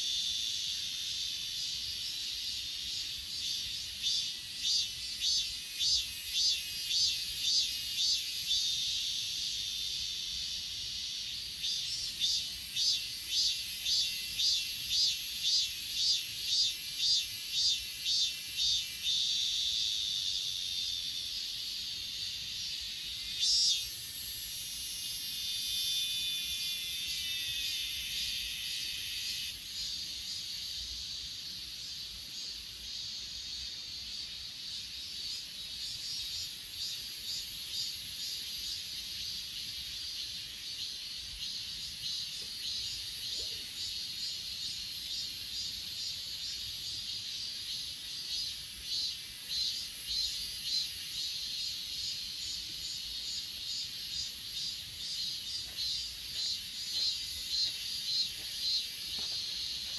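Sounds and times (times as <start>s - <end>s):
insects chirring: 0.0s - 59.9s
shrill insect buzz: 0.0s - 59.9s.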